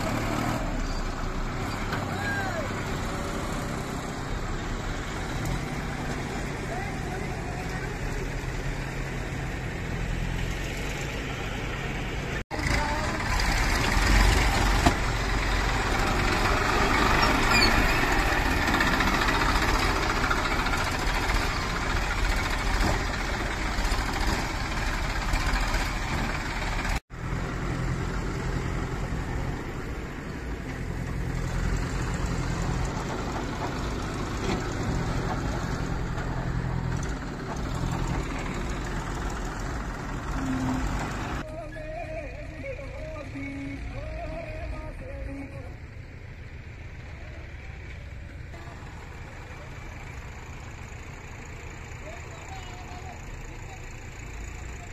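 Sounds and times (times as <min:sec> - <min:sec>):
diesel tractor engines running: 0:00.0 - 0:54.9.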